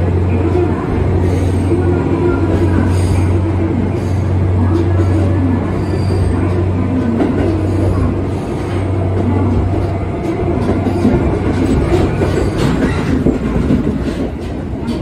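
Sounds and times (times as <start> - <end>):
diesel engine drone: 0.0 - 12.0
train wheels rumbling: 0.0 - 15.0.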